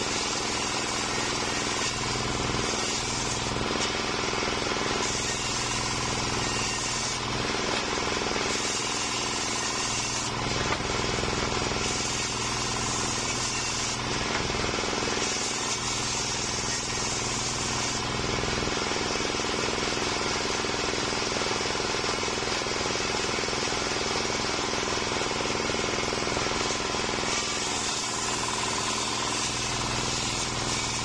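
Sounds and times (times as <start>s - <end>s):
saw blade cutting wood: 0.0s - 31.0s
table saw running: 0.0s - 31.0s.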